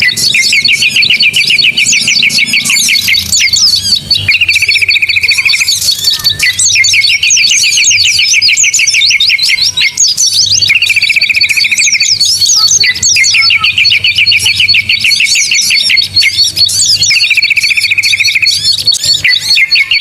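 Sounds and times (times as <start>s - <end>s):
fast high bird trill: 0.0s - 20.0s
songbirds chirping: 0.0s - 20.0s.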